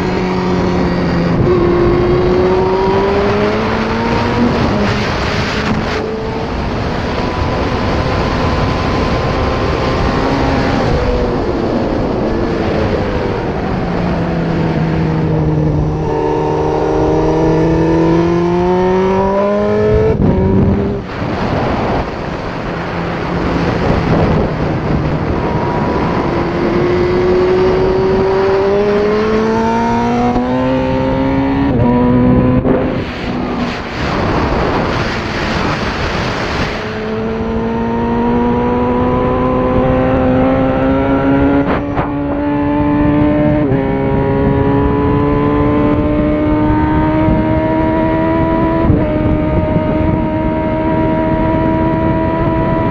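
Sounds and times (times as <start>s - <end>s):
motorcycle engine accelerating: 0.0s - 52.9s
wind rush: 0.0s - 52.9s.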